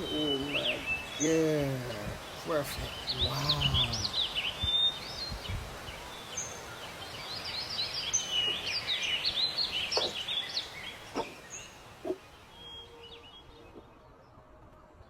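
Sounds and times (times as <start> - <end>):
songbirds chirping and singing: 0.0 - 15.0
steady outdoor hiss: 0.0 - 15.0.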